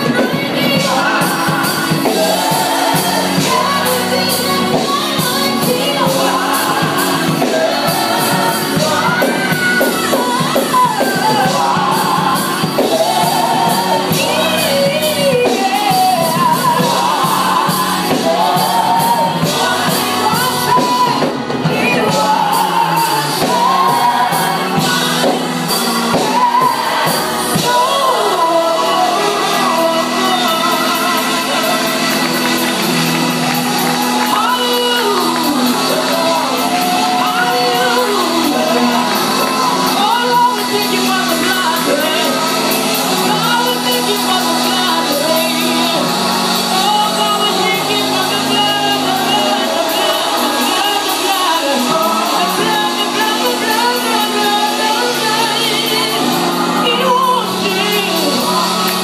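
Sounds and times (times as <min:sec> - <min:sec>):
congregation shouting and whooping: 0:00.0 - 0:59.0
instrumental accompaniment: 0:00.0 - 0:59.0
person singing into microphone: 0:00.0 - 0:59.0.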